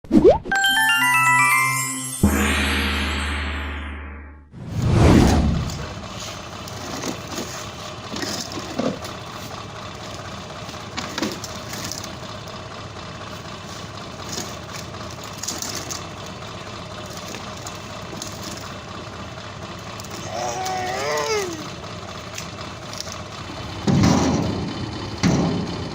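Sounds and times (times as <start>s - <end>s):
truck engine running: 4.5s - 25.9s.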